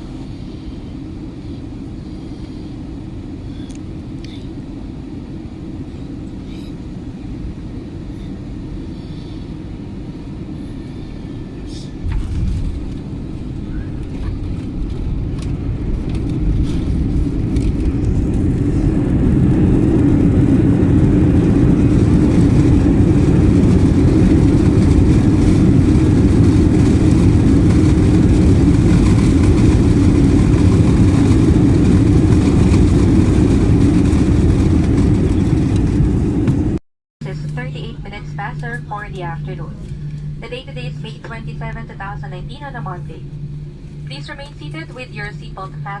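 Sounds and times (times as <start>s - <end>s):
aircraft engine rumble in cabin: 0.0s - 46.0s.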